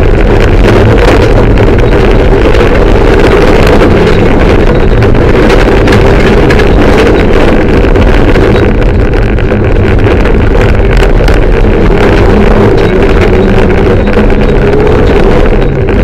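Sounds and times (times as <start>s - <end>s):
car engine running at high revs: 0.0s - 16.0s.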